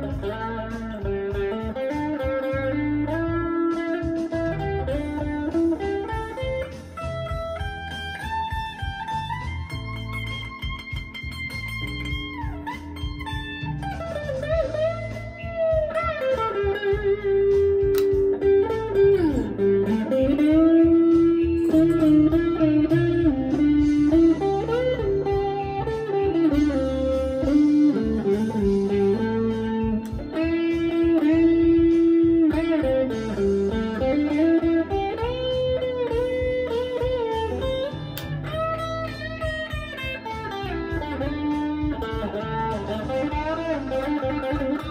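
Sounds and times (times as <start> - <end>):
bass: 0.0 - 44.9
drums: 0.0 - 44.9
electric guitar blues lead: 0.0 - 44.9.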